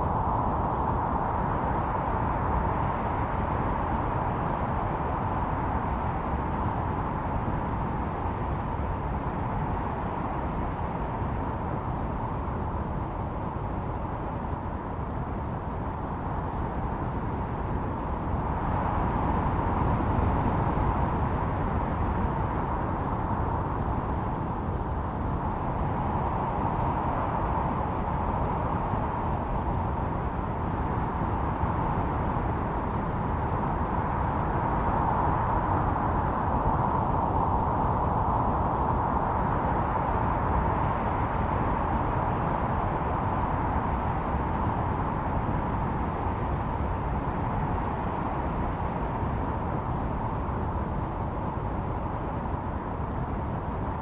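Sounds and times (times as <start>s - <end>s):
howling storm wind: 0.0s - 54.0s.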